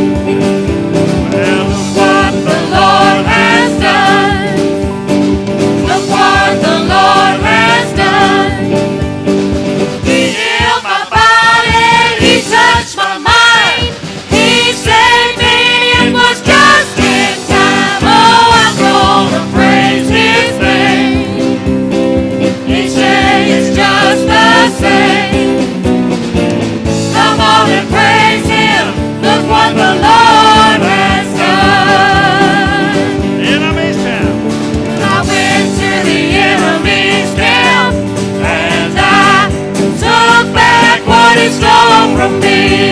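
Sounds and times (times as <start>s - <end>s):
held instrumental chords: 0.0s - 42.9s
gospel singing voices: 1.1s - 4.9s, 5.6s - 9.1s, 9.9s - 21.8s, 22.4s - 25.7s, 26.9s - 42.9s.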